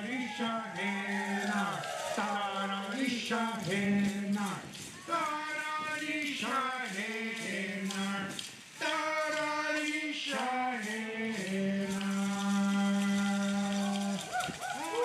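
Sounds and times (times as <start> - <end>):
voices singing a chant: 0.0 - 15.0.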